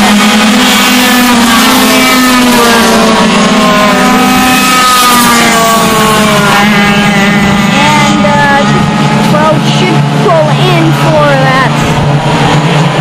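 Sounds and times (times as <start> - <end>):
kart engines whining: 0.0 - 13.0.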